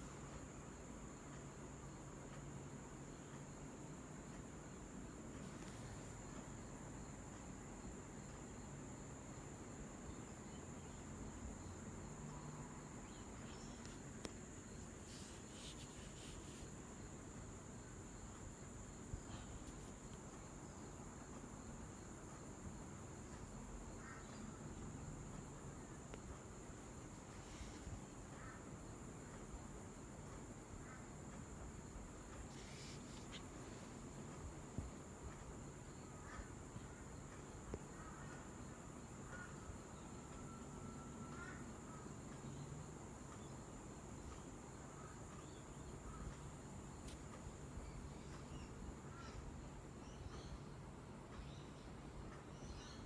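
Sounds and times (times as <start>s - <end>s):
faint high-pitched whine: 0.0s - 53.0s
faint ticks: 0.0s - 53.0s
steady hiss: 0.0s - 53.0s.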